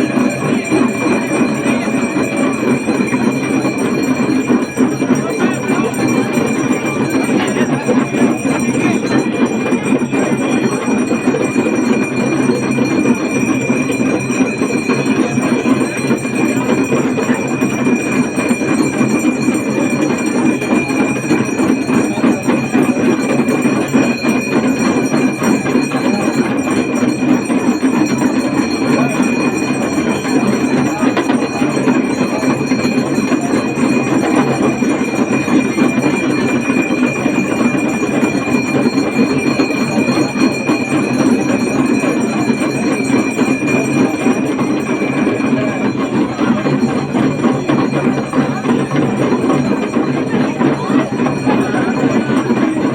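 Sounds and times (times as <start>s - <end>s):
hand drums rattling rapidly: 0.0s - 52.9s
jingling bells: 0.0s - 52.9s
steady high ringing tone: 0.0s - 52.9s.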